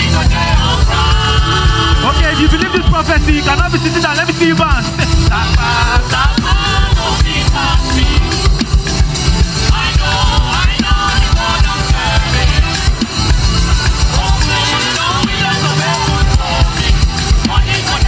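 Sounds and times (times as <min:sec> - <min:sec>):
upbeat gospel song over speakers: 0:00.0 - 0:18.0.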